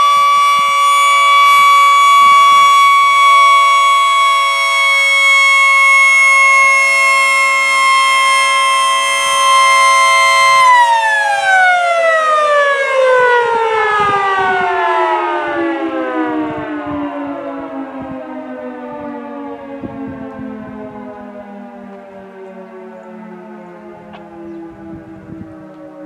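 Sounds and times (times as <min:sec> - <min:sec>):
warning siren winding down: 0:00.0 - 0:26.0.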